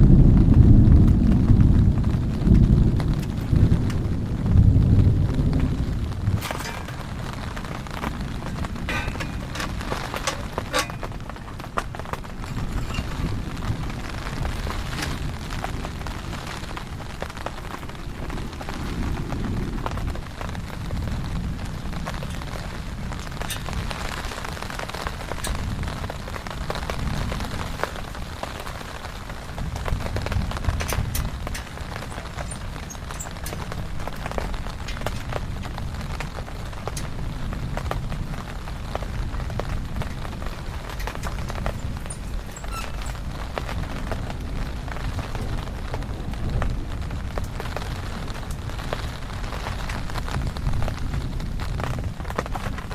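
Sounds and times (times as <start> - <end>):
low rumble: 0.0 - 52.8
heavy rain falling: 0.0 - 52.9
raindrops tapping nearby: 0.0 - 52.9.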